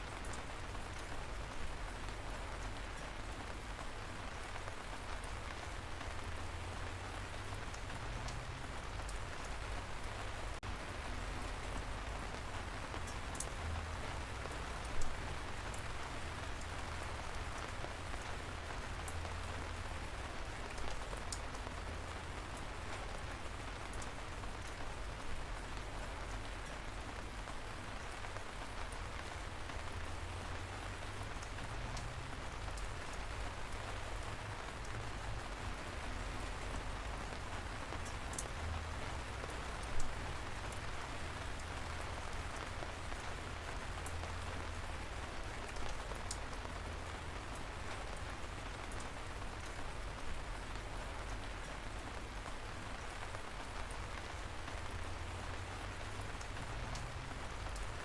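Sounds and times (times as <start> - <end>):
light rain hissing: 0.0 - 58.0
raindrops ticking: 0.1 - 58.0.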